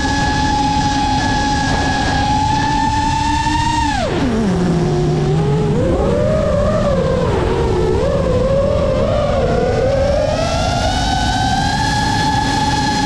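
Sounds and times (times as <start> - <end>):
drone motors whining: 0.0 - 13.0
steady rushing noise: 0.0 - 13.0.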